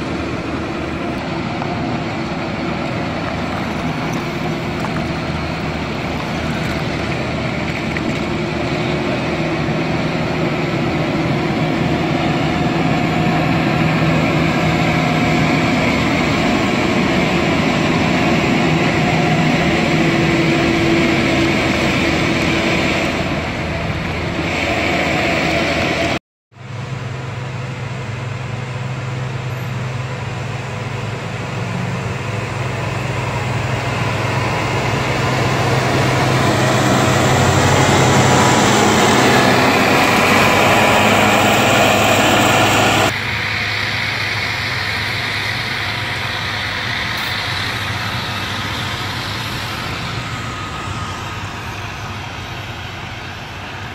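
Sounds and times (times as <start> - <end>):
grader diesel engine running: 0.0 - 53.9
heavy truck diesel engine: 0.0 - 53.9.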